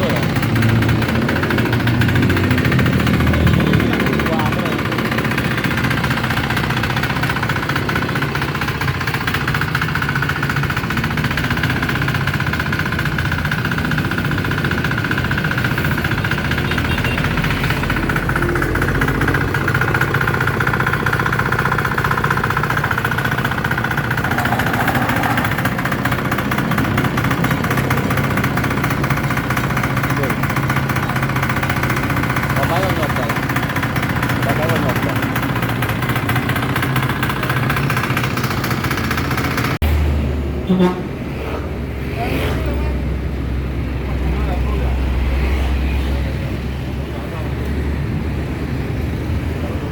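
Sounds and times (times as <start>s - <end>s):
tiller diesel engine droning: 0.0s - 49.9s.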